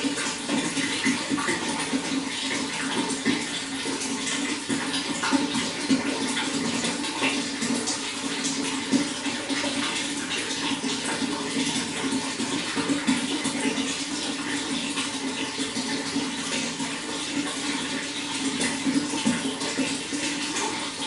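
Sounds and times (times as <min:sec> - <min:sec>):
running water flowing: 0:00.0 - 0:21.0
small water splashes: 0:00.0 - 0:21.0.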